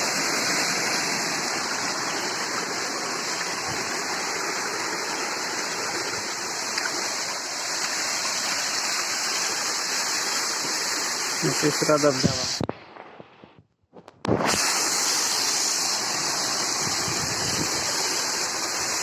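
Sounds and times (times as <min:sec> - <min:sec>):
waterfall roaring: 0:00.0 - 0:12.6, 0:14.4 - 0:19.0.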